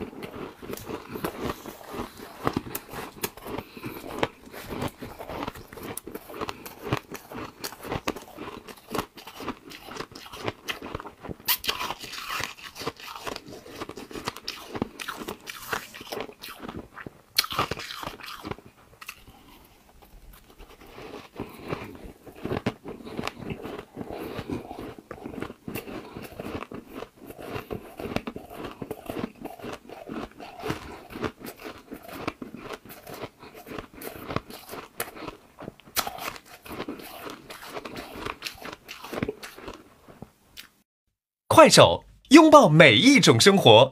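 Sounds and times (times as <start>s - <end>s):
ice being chewed: 0.0s - 40.7s.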